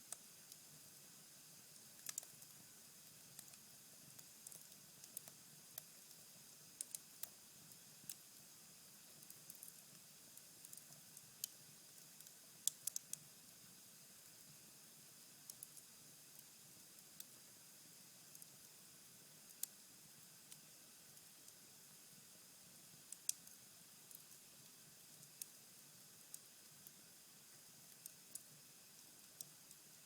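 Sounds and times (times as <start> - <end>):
soft fire hiss: 0.0 - 30.0.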